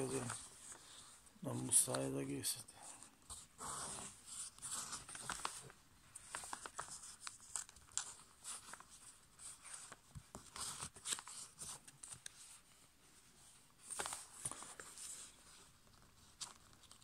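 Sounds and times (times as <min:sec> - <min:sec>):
paper crinkling and scraping: 0:00.0 - 0:02.1, 0:03.3 - 0:17.0.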